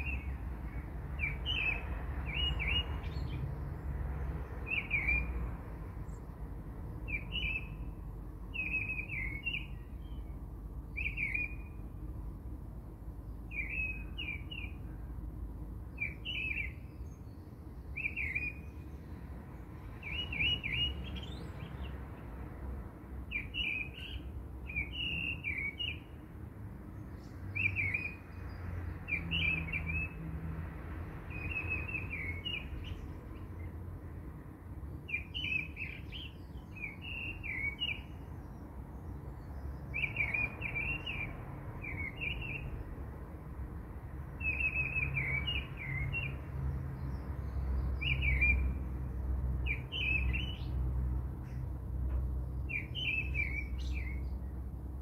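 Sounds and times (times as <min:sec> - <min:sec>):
small birds twittering: 0:00.0 - 0:12.2, 0:13.2 - 0:15.2, 0:15.8 - 0:22.3, 0:23.2 - 0:30.2, 0:31.3 - 0:33.8, 0:34.8 - 0:42.9, 0:44.3 - 0:50.8, 0:52.4 - 0:54.7.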